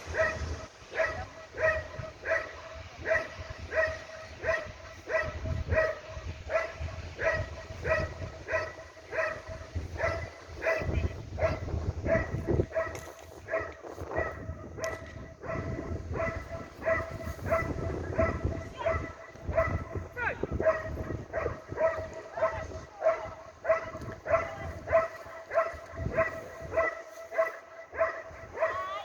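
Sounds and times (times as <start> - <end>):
dog barking: 0.1 - 29.0.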